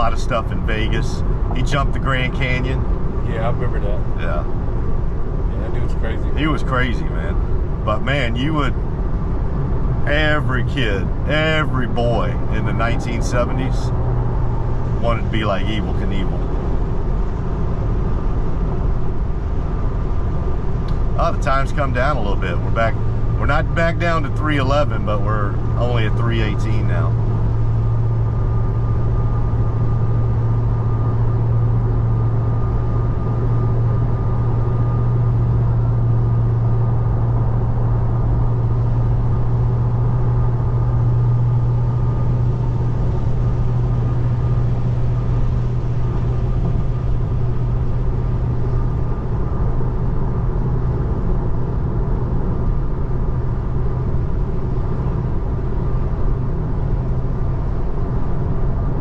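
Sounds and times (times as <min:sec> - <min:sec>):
constant low hum: 0:00.0 - 0:59.0
road and tyre noise in car: 0:00.0 - 0:59.0.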